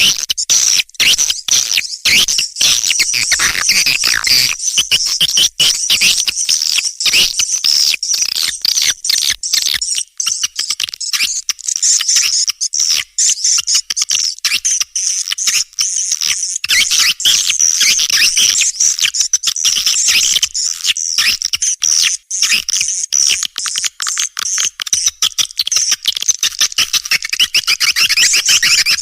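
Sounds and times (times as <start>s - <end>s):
swiftlet calls chattering: 0.0s - 13.0s, 14.3s - 29.0s.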